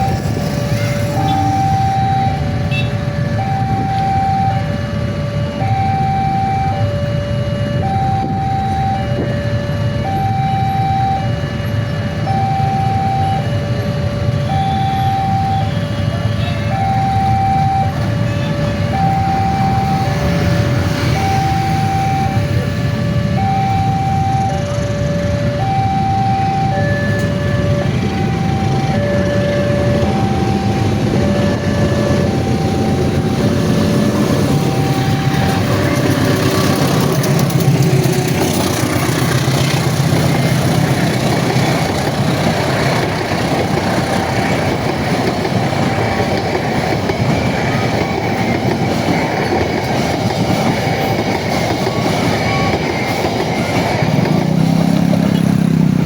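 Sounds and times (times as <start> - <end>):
level crossing alarm two tones: 0.0 - 55.8
passing train rumble: 0.0 - 56.0.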